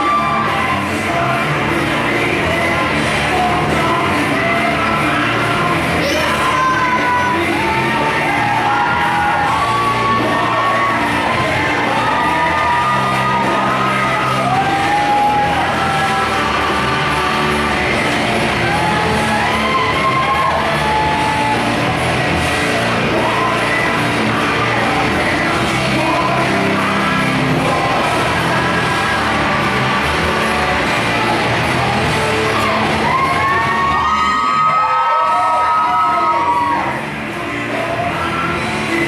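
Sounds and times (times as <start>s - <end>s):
person singing: 0.0s - 39.0s
steady bass line: 0.0s - 39.0s.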